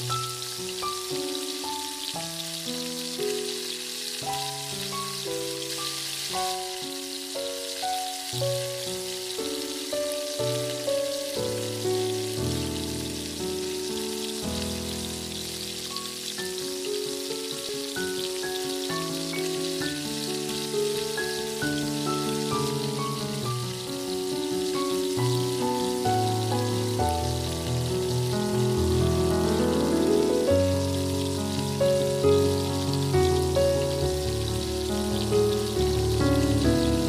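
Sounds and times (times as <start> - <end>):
instrumental melody of held notes: 0.0 - 37.0
oil sizzling in a pan: 0.0 - 37.0.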